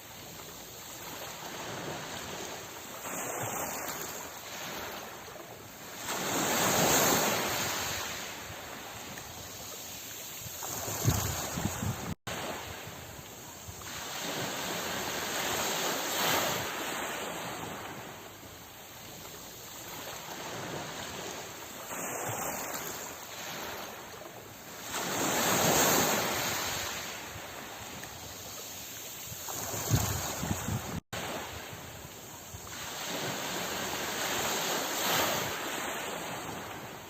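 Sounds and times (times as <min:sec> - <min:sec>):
sea surf washing in: 0:00.0 - 0:37.0.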